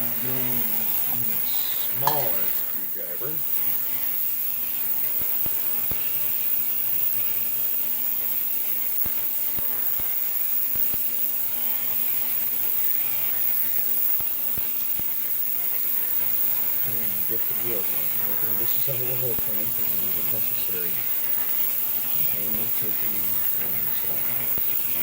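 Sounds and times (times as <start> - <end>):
ultrasonic cleaner buzzing hum: 0.0 - 25.0.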